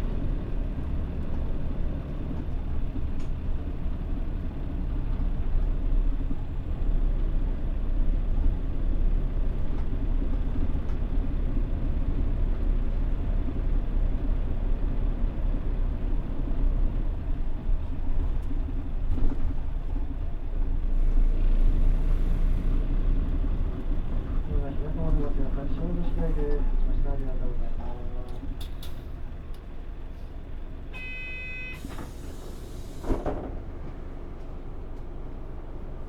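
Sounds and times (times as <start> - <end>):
bus engine and road noise: 0.0 - 36.0.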